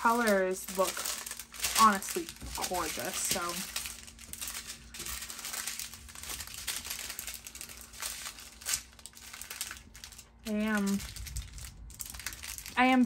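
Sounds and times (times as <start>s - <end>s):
plastic bags crinkling: 0.0s - 13.0s
sharp plastic crackle: 0.0s - 13.0s.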